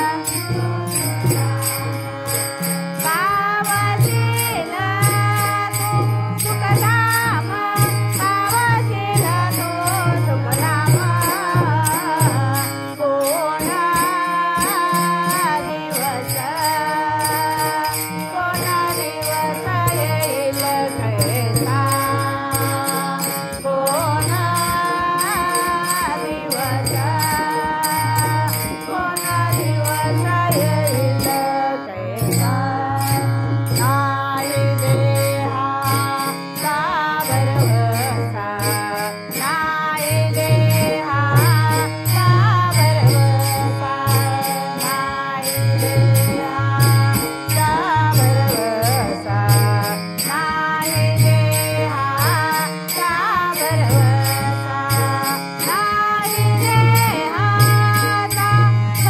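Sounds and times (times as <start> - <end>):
hand cymbals struck in steady beat: 0.0 - 31.6, 32.2 - 59.0
women singing devotional song: 0.0 - 59.0.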